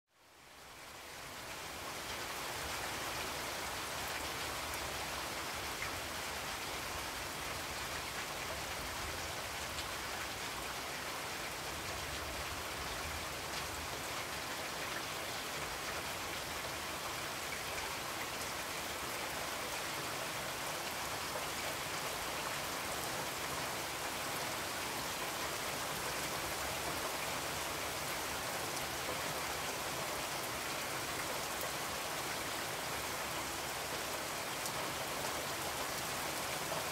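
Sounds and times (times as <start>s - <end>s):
steady rain-like hiss: 0.1s - 36.9s.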